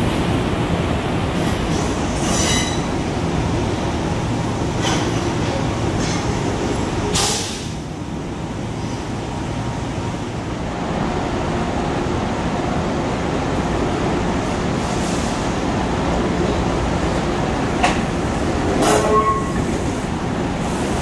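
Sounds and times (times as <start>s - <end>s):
electric trains rumbling: 0.0s - 21.0s.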